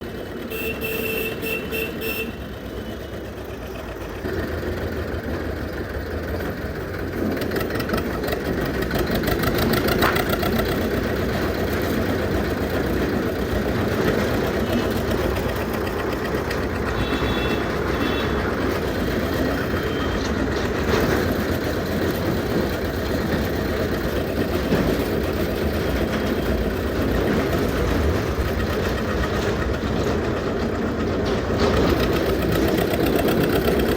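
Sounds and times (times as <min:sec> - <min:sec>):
tractor diesel engine knocking: 0:00.0 - 0:33.9.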